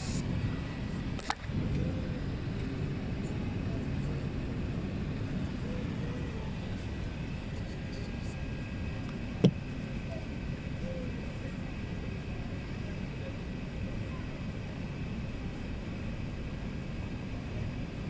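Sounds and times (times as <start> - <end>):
aircraft cabin rumble: 0.0 - 18.0
faint steady whine: 0.0 - 18.0.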